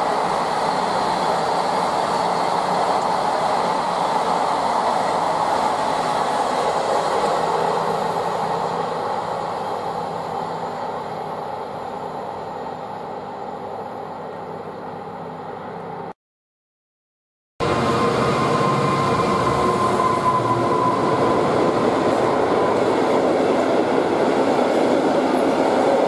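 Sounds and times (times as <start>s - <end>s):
freight train wheels on rails: 0.0s - 15.1s, 17.6s - 26.0s.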